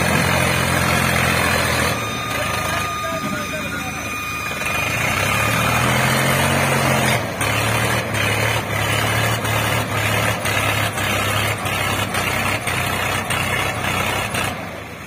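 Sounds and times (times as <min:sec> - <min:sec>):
tractor diesel engine labouring: 0:00.0 - 0:15.0.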